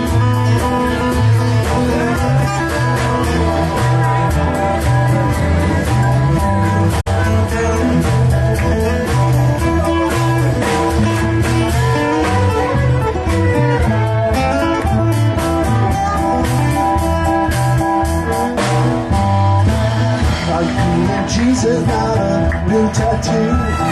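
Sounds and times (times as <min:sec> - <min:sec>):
guitar: 0:00.0 - 0:23.9
live band music: 0:00.0 - 0:23.9.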